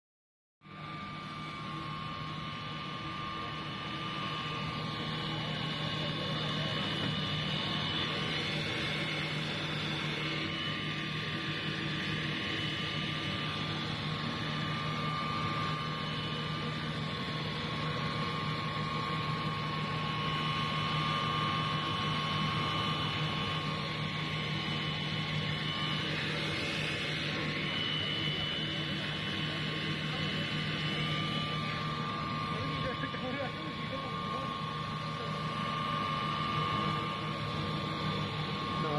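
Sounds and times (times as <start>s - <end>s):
machine humming and whining: 0.6s - 38.9s.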